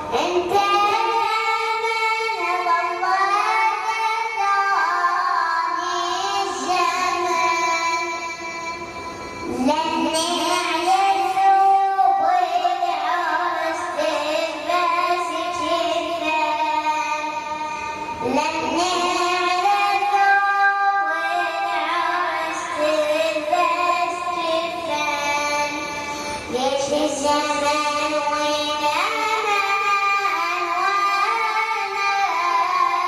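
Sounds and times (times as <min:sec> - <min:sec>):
boy singing a lament: 0:00.0 - 0:08.8, 0:09.4 - 0:33.0.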